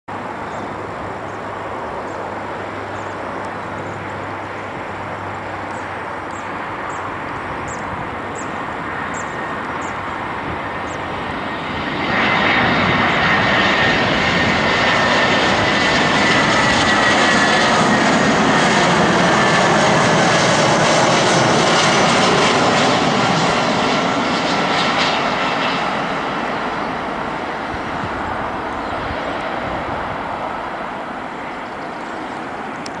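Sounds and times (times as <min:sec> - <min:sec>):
jet engine noise: 0:00.1 - 0:33.0.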